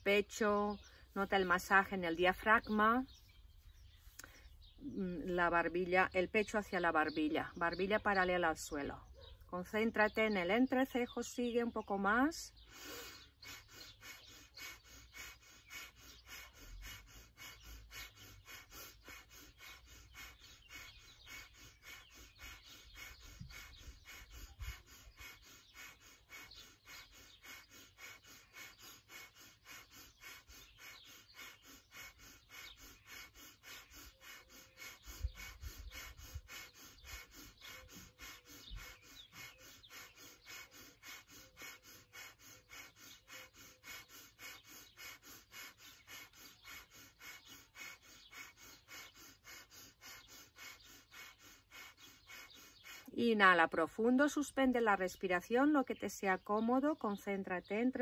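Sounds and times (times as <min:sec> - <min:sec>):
fast forceful breaths through nose: 0:00.0 - 0:04.9, 0:10.0 - 0:57.8.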